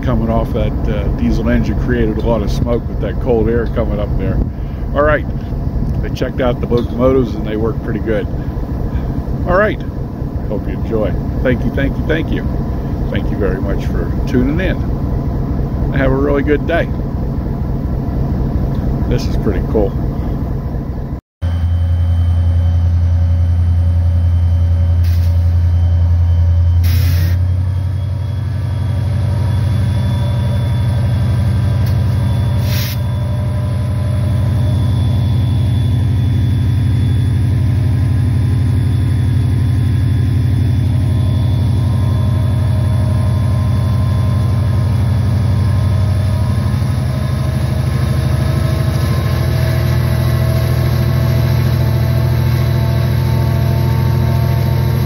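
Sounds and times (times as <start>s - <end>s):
diesel locomotive engine droning: 0.0s - 55.0s
thin whine: 0.0s - 55.0s.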